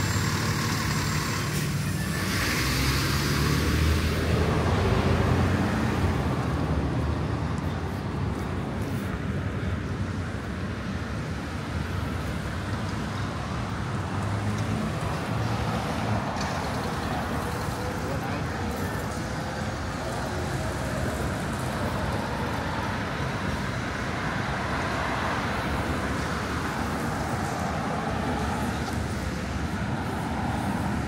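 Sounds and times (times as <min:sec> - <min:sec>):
cars passing: 0:00.0 - 0:31.0
large vehicle engine: 0:00.0 - 0:31.0.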